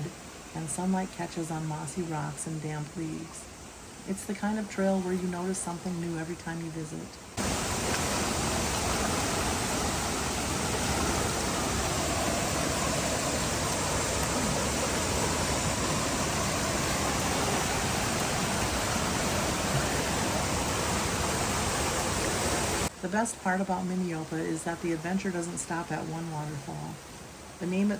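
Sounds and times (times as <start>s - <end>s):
rushing creek water: 0.0s - 27.9s.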